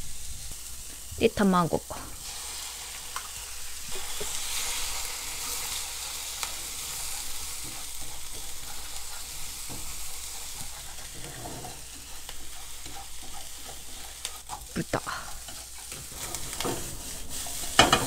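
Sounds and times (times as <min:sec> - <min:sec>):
egg sizzling in a frying pan: 0:00.0 - 0:18.0.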